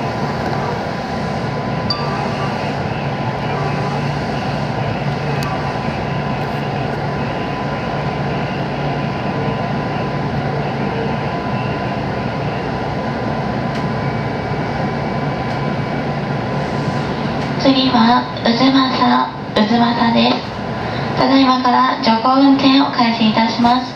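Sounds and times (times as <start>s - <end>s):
train wheels rumbling on track: 0.0s - 23.9s.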